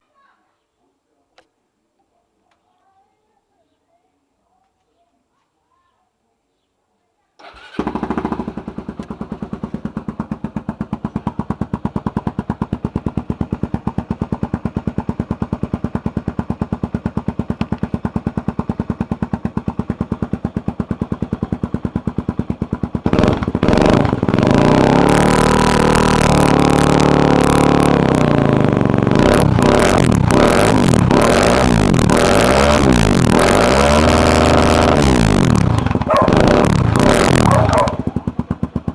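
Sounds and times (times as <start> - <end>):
motorcycle engine idling and revving: 7.4 - 38.9.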